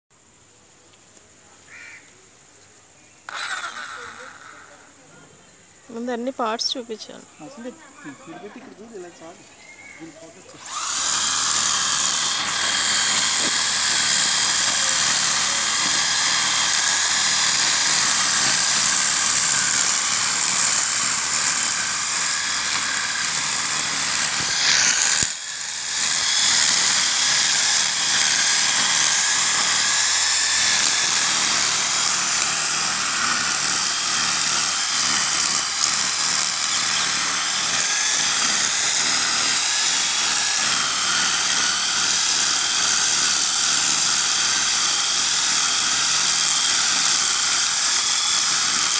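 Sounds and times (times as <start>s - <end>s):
cutter whirring through grass: 3.3s - 4.8s, 10.5s - 48.9s
electric drill motor whine: 3.3s - 4.8s, 10.5s - 48.9s.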